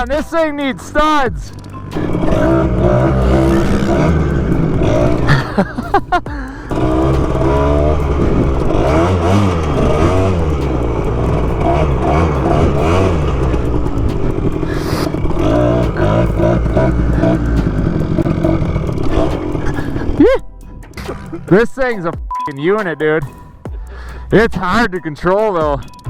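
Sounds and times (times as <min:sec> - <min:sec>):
motorbike engine revving: 0:00.0 - 0:22.2.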